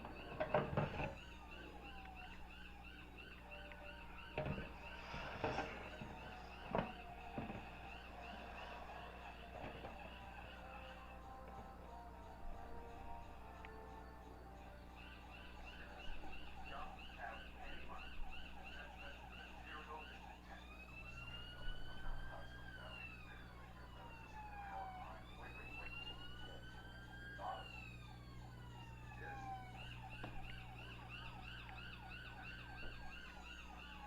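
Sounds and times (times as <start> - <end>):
siren yelping and wailing: 0.0 - 34.0.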